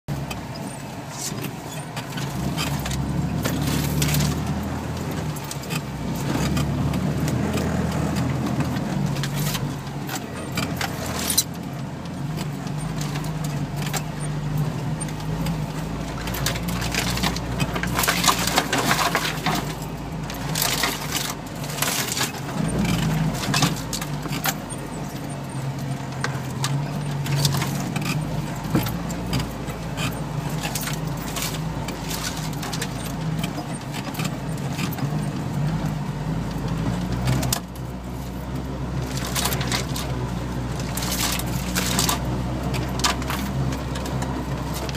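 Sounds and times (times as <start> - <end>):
vehicle engine running: 0.0 - 44.9
rattles and knocks from vehicle body: 0.1 - 44.9.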